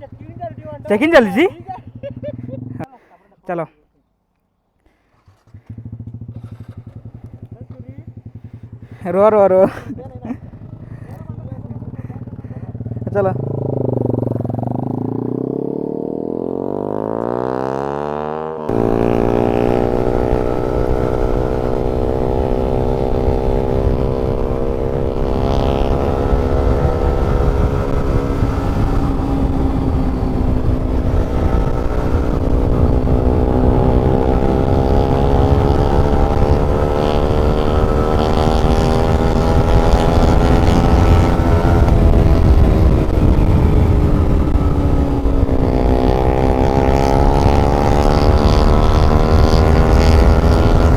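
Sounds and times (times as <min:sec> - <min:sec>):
motorcycle engine running: 0:00.0 - 0:02.9, 0:04.9 - 0:50.9.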